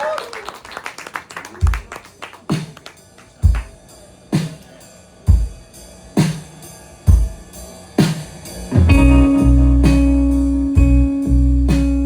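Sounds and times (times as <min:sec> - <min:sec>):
drum kit beat: 0:01.6 - 0:12.0.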